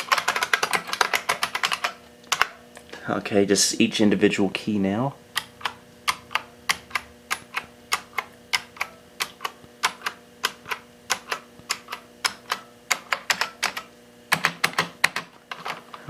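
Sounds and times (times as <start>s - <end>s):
keyboard keys clicking: 0.0s - 2.5s, 5.4s - 15.8s.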